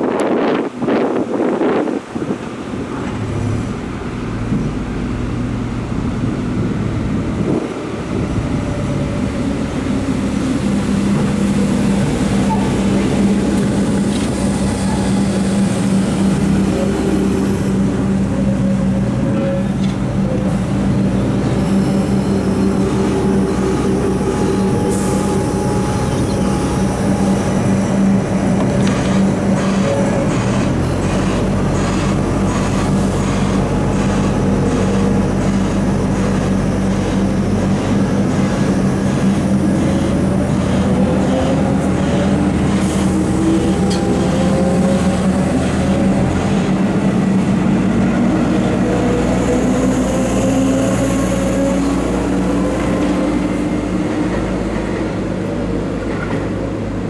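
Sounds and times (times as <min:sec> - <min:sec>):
electric train humming: 0:00.0 - 0:57.0
wheels rumbling on rail: 0:00.0 - 0:57.0.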